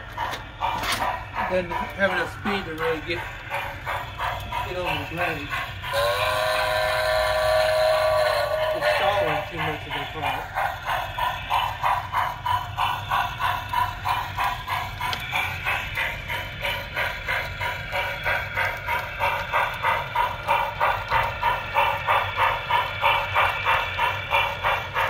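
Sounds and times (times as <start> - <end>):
model steam locomotive chuffs: 0.0 - 25.0.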